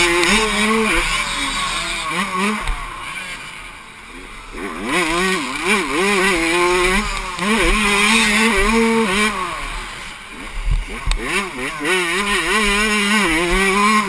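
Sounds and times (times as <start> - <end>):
motocross engine revving: 0.0 - 14.0.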